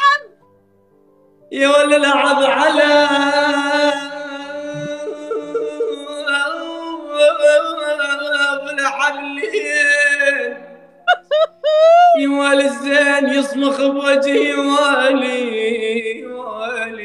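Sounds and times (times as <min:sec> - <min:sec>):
male singer holding long notes: 0:01.5 - 0:10.8, 0:12.0 - 0:17.0.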